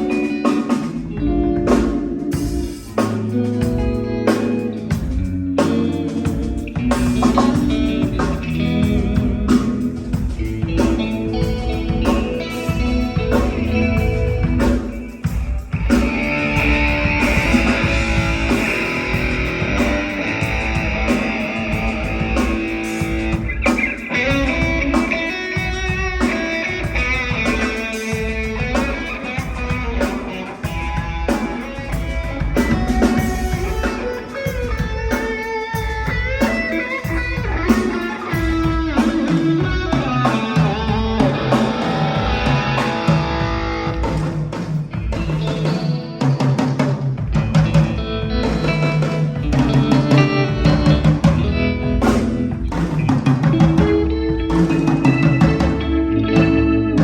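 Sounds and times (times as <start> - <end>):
bass guitar: 0.0 - 57.0
drums: 0.0 - 57.0
electric guitar through amplifier: 0.0 - 57.0.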